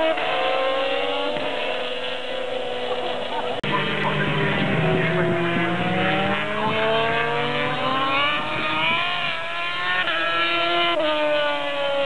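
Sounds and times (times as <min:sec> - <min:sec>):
racing motorcycle engines revving: 0:00.0 - 0:12.0.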